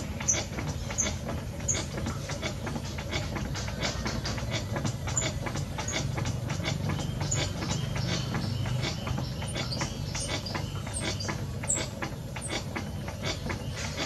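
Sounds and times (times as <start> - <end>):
potter's wheel humming: 0.0 - 14.0
rapid uneven clicking: 0.0 - 14.0.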